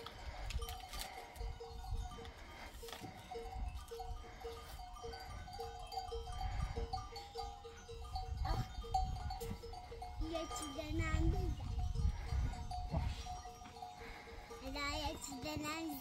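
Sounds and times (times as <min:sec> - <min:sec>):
sheep and goats: 0:00.0 - 0:16.0.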